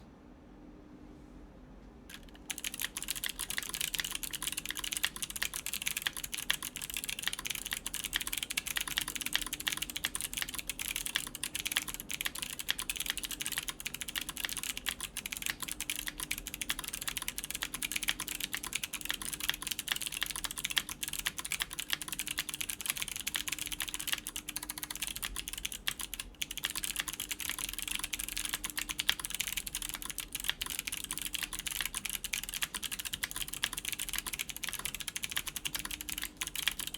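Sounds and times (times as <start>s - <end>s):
fast typing on mechanical keyboard: 2.1s - 36.9s.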